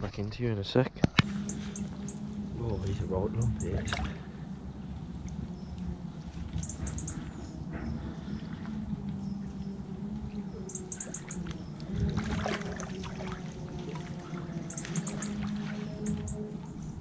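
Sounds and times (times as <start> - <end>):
water sloshing and splashing: 1.1 - 17.0.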